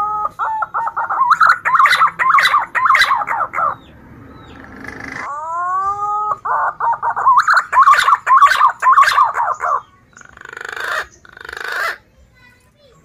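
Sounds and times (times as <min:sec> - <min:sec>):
pigeon whistling song: 0:00.0 - 0:12.0
pigeon rasping calls: 0:00.0 - 0:12.1.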